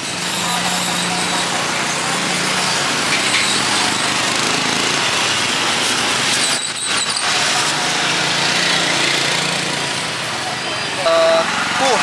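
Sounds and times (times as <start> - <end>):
small motorbike engines running: 0.0 - 12.0.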